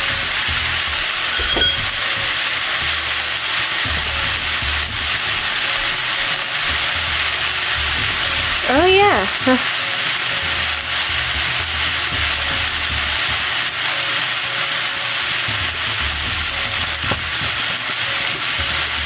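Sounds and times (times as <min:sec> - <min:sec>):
food sizzling in a skillet: 0:00.0 - 0:19.0.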